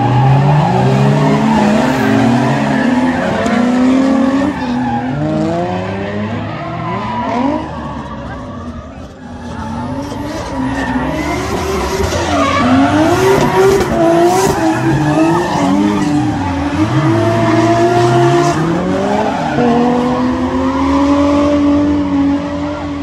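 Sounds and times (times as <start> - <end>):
tyres squealing on pavement: 0.0 - 21.0
stock car engines revving: 0.0 - 23.0.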